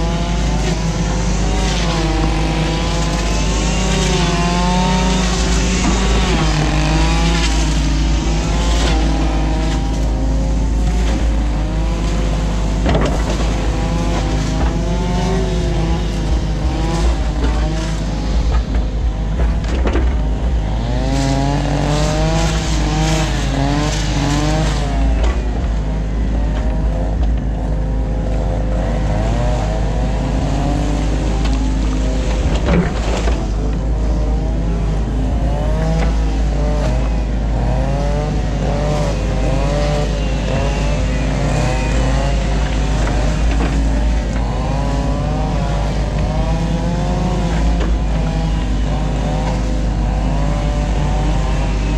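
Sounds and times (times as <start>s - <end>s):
excavator engine and hydraulics: 0.0s - 51.9s.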